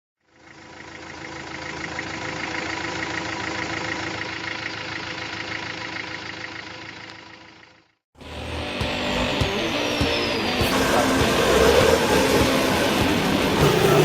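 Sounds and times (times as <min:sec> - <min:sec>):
truck engine idling: 0:00.2 - 0:14.0.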